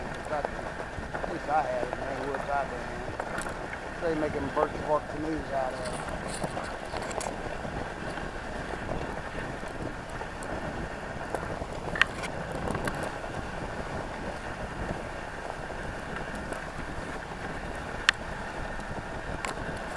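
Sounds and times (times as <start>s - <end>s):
sled runners hissing over snow: 0.0s - 19.9s
wind on microphone: 0.0s - 19.9s.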